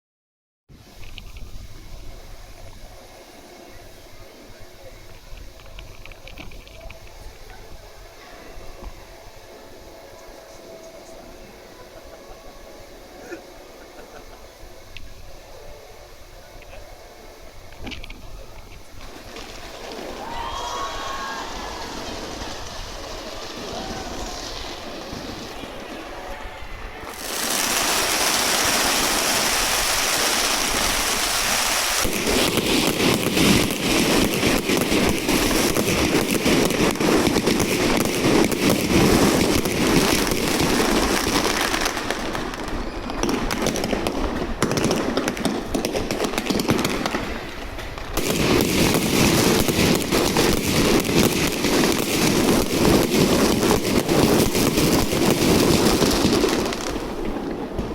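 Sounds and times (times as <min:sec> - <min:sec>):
fireworks crackling: 0:00.7 - 0:57.9
loud firework hiss: 0:00.7 - 0:57.9.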